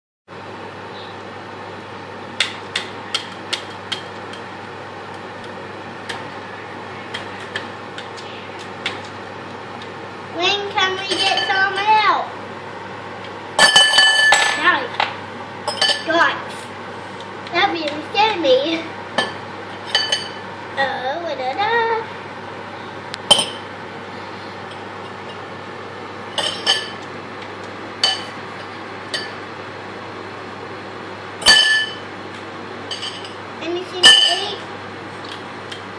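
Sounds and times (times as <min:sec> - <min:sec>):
pot boiling with bubbling hiss: 0:00.4 - 0:35.9.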